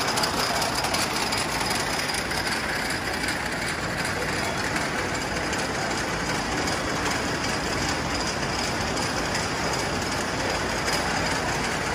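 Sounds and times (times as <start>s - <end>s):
wire braiding machine rattle and hum: 0.0s - 11.9s.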